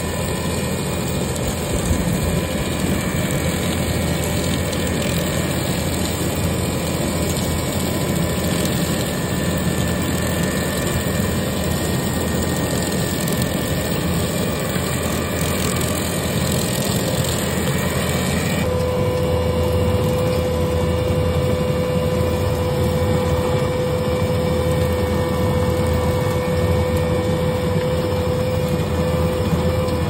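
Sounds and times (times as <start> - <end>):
brush cutter mowing grass: 0.0 - 30.0.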